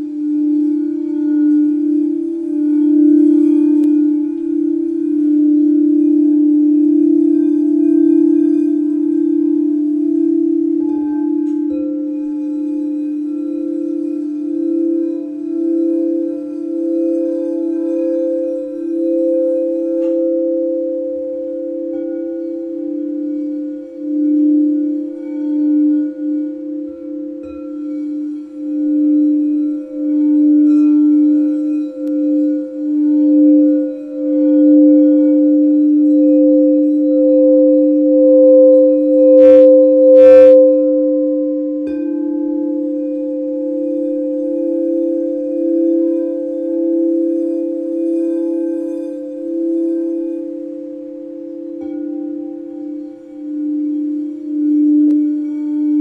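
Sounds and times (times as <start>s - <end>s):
singing bowls sustained tones: 0.0s - 56.0s.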